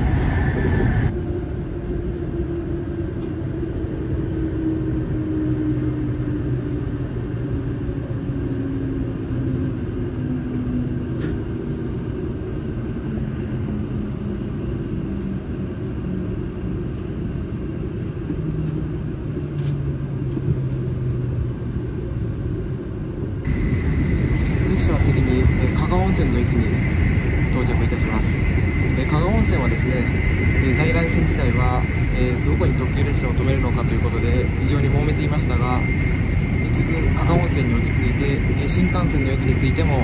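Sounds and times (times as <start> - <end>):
low hum: 0.0 - 40.0
train rumbling: 0.0 - 40.0.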